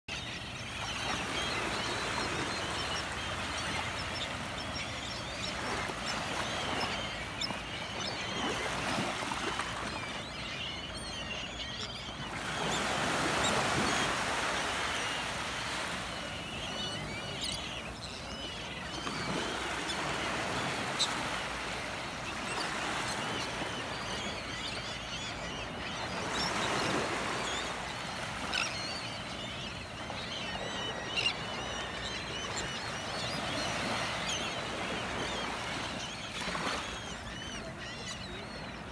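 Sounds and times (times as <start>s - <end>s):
seabirds calling: 0.1s - 38.9s.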